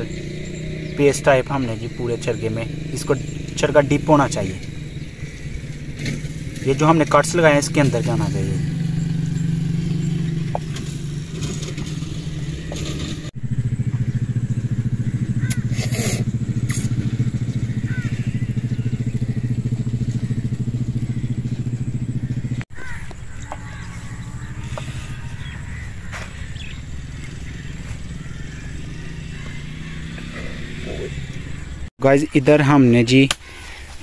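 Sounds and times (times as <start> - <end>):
engine humming: 0.0 - 31.9.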